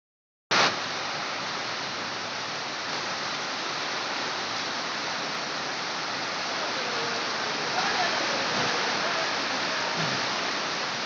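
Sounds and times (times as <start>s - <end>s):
heavy rain pouring: 0.5s - 11.0s.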